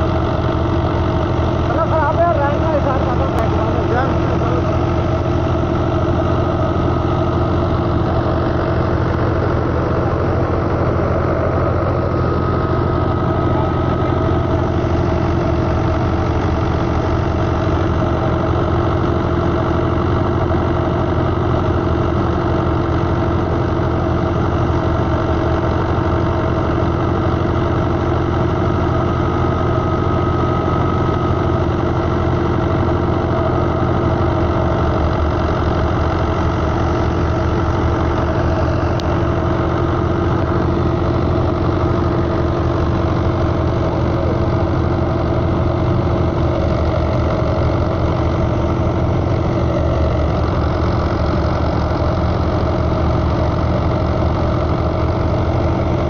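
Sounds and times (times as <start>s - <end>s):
tractor diesel engine running: 0.0s - 56.0s
wheat thresher turning: 0.0s - 56.0s.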